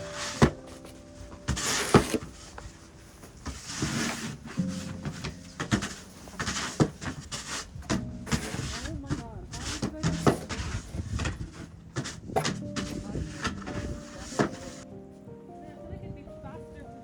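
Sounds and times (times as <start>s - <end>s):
snow shovel scraping snow: 0.0s - 14.9s
soft background music: 0.0s - 17.0s.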